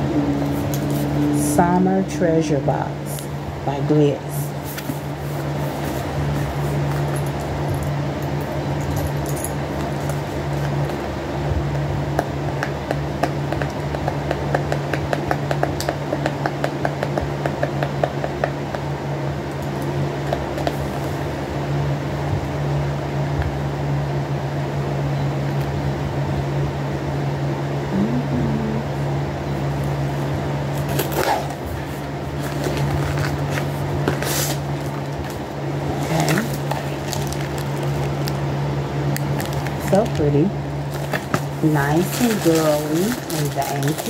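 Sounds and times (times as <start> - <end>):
electric fan humming: 0.0 - 44.0.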